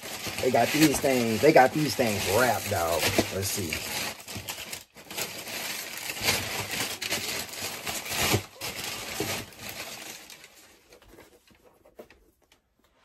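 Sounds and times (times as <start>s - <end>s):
wrapping rustling and crinkling: 0.0s - 13.0s.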